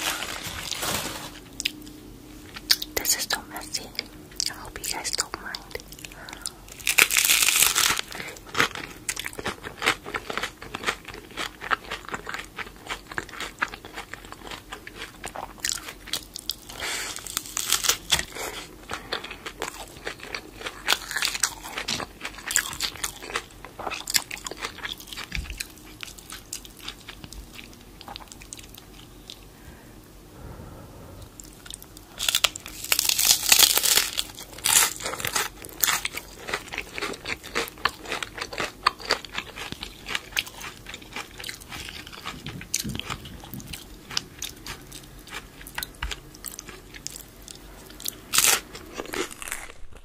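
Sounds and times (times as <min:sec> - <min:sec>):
crisp chewing crackles: 0:00.0 - 0:29.5, 0:31.4 - 0:50.0
crunching bite of taco: 0:04.4 - 0:29.4, 0:31.7 - 0:50.0.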